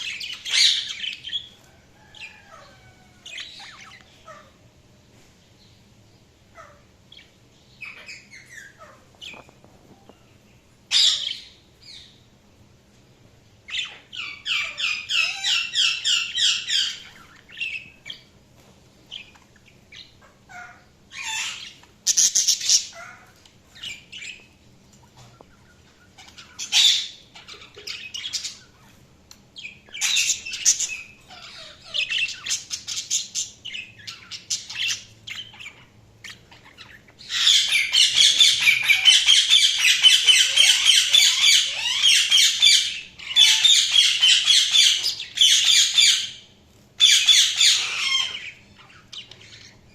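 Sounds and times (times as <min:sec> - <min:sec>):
budgerigars chirping: 0:00.0 - 0:04.6, 0:06.5 - 0:09.5, 0:10.9 - 0:12.2, 0:13.7 - 0:18.3, 0:19.1 - 0:29.0, 0:29.6 - 0:49.9.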